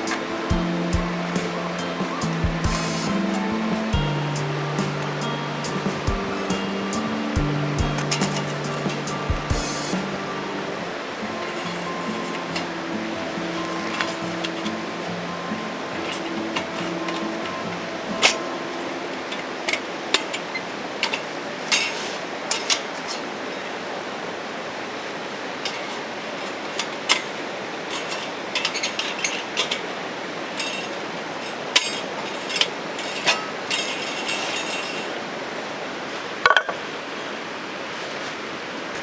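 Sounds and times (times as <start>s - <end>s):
steady background hiss: 0.0s - 39.0s.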